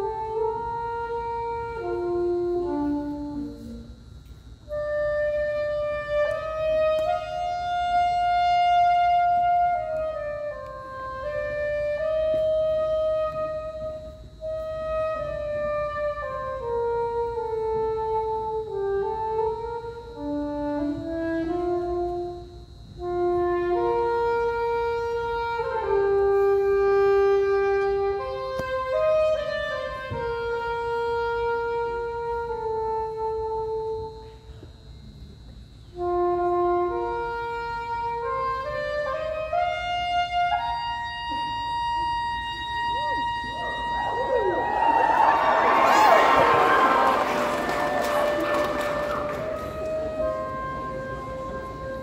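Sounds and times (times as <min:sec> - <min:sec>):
wind instrument slow melody: 0:00.0 - 0:52.0.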